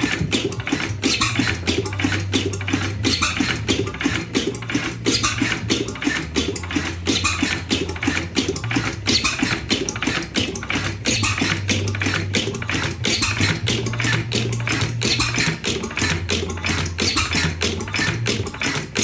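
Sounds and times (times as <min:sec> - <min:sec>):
stationary engine clattering: 0:00.0 - 0:19.0.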